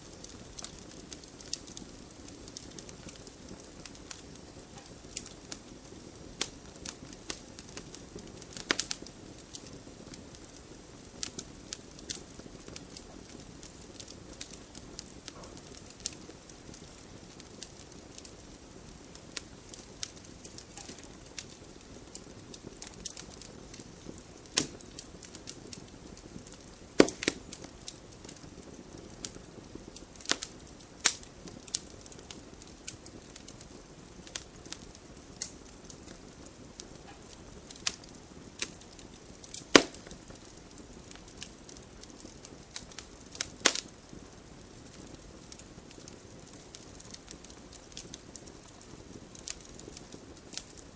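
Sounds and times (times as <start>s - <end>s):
flames rustling: 0.0s - 50.9s
wood fire crackling and popping: 0.0s - 50.9s.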